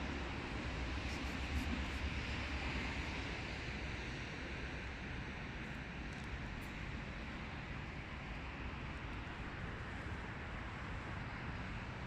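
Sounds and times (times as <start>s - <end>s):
seaside background hiss: 0.0s - 12.0s.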